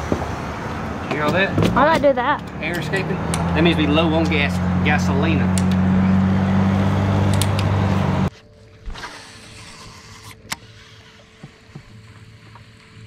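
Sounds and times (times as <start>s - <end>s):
fuel pump humming and rushing: 0.0s - 13.0s.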